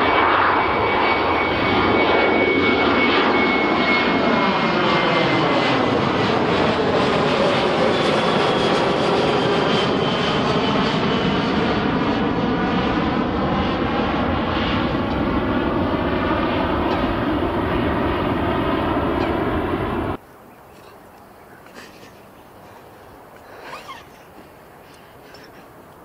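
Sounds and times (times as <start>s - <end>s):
airliner engines passing: 0.0s - 26.0s.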